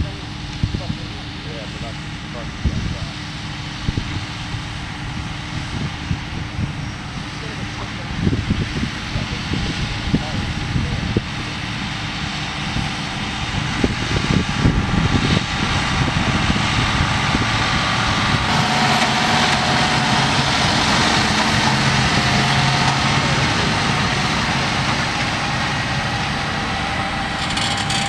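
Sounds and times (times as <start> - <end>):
tractor diesel engines working: 0.0 - 28.0.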